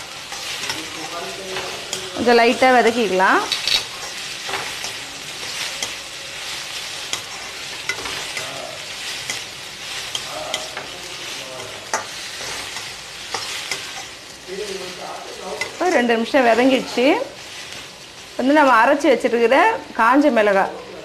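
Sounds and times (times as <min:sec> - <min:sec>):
spatula scraping pan: 0:00.0 - 0:18.1
onions sizzling in oil: 0:00.0 - 0:21.0.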